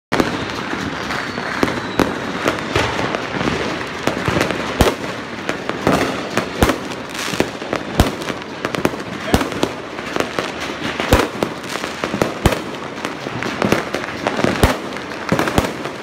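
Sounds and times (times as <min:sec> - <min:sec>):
fireworks crackle: 0:00.1 - 0:16.0.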